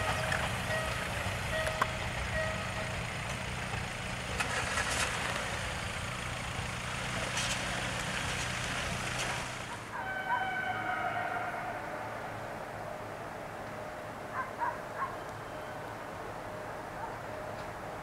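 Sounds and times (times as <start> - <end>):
train engines humming: 0.0 - 18.0.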